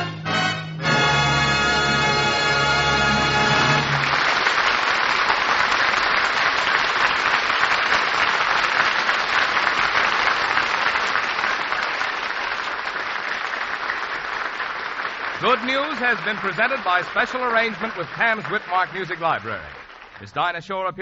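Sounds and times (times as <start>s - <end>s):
audience applauding: 1.0s - 21.0s.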